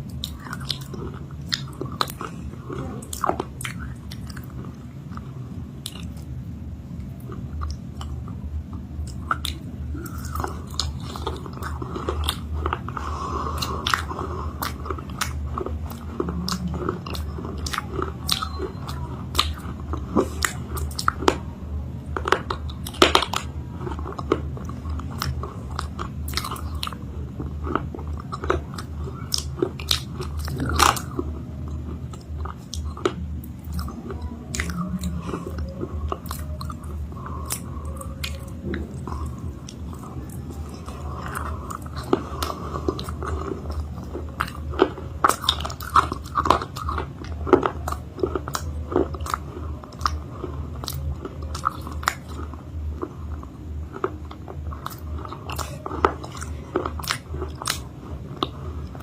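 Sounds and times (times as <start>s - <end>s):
crunchy chewing: 0.0s - 59.0s
low hum: 0.0s - 59.0s.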